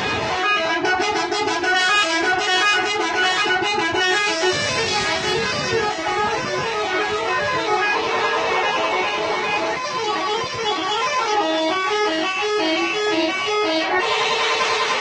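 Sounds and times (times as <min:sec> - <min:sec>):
fast electric guitar melody: 0:00.0 - 0:15.0.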